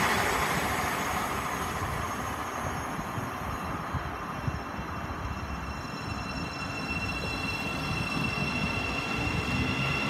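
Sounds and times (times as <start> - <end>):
high electric whine of train: 0.0 - 10.0
wheel and rail rumble: 0.0 - 10.0.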